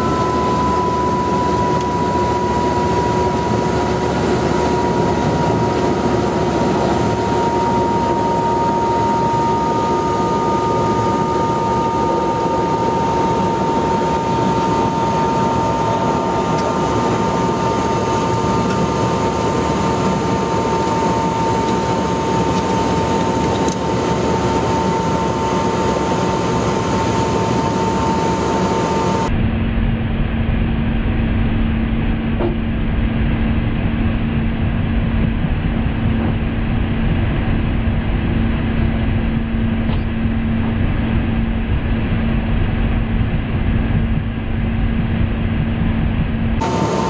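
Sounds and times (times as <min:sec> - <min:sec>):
helicopter rotor and engine: 0:00.0 - 0:29.4, 0:31.4 - 0:47.0.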